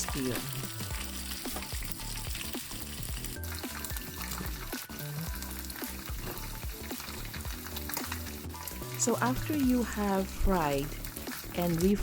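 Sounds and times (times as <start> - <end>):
background music: 0.0 - 12.0
chicken sizzling in oil: 0.0 - 12.0.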